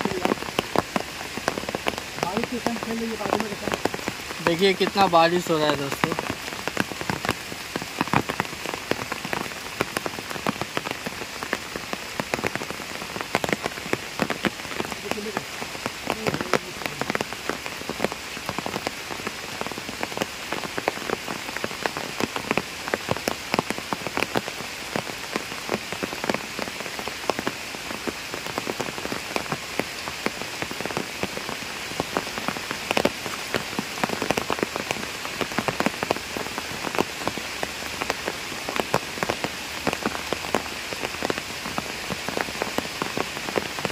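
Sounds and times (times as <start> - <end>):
heavy rain on pond: 0.0 - 43.9.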